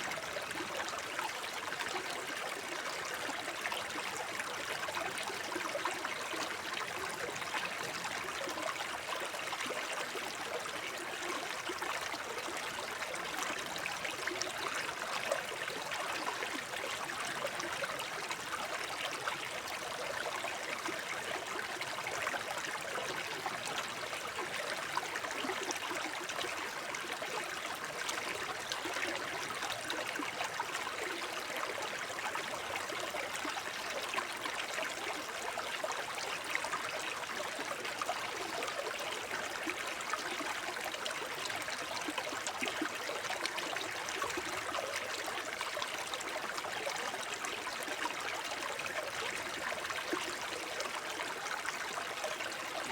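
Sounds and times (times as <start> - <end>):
brook babbling over stones: 0.0 - 52.9.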